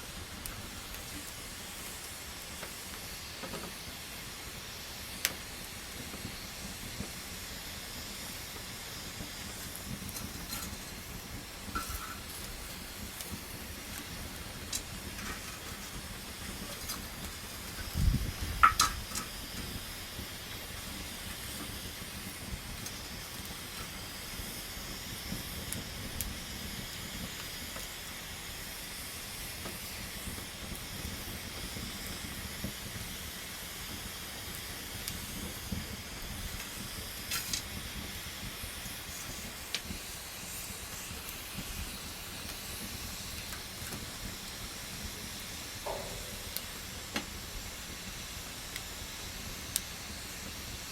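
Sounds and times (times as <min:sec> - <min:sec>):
campfire hissing and crackling: 0:00.0 - 0:50.9.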